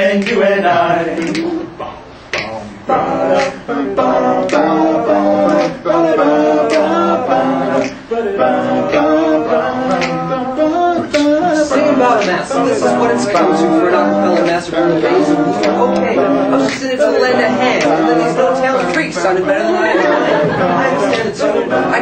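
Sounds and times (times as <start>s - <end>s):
men singing a cappella harmony: 0.0s - 22.0s.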